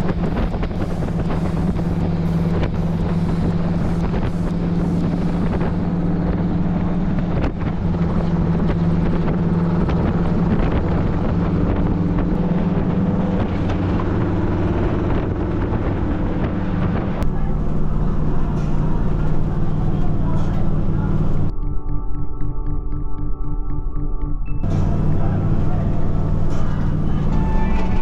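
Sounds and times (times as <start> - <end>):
vehicle engine humming: 0.0 - 21.5, 24.2 - 28.0
road and wind noise: 0.0 - 21.6, 24.6 - 28.0.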